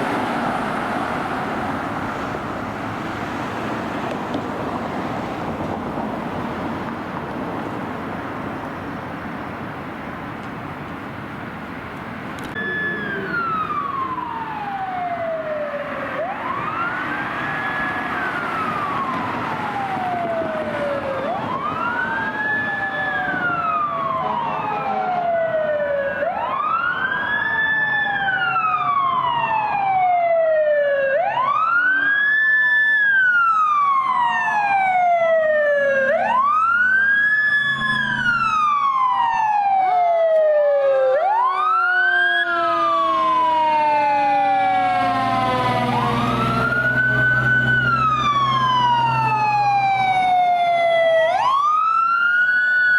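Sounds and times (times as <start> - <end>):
emergency sirens wailing: 0.0 - 52.9
traffic noise: 0.0 - 52.9.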